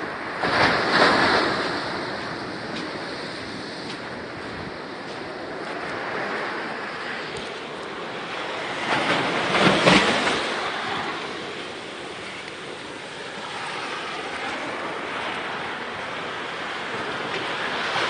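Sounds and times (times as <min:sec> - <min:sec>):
ocean surf breaking on beach: 0:00.0 - 0:18.0.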